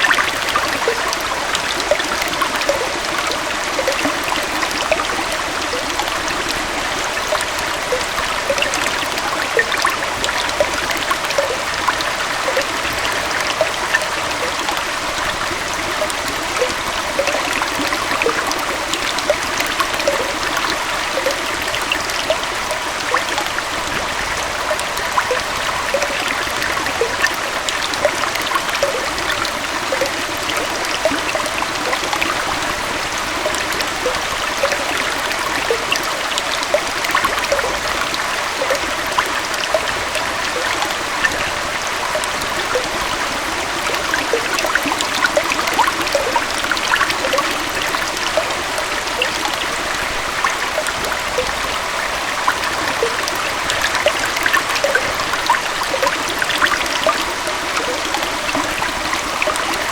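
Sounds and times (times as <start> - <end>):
water flowing with splashes: 0.0 - 59.9.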